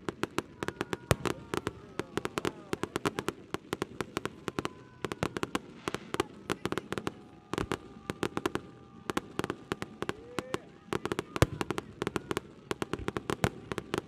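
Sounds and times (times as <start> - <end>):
fireworks cracking: 0.0 - 14.0.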